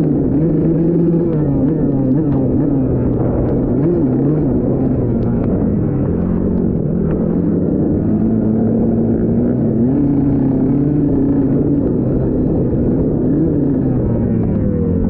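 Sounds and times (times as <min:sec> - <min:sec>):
dirt bike engine revving: 0:00.0 - 0:15.0
low rumble: 0:00.0 - 0:15.0.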